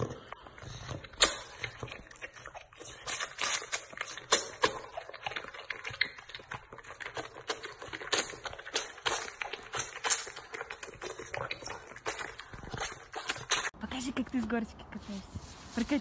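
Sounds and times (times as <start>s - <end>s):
tiger cub suckling bottle: 0.0s - 13.8s.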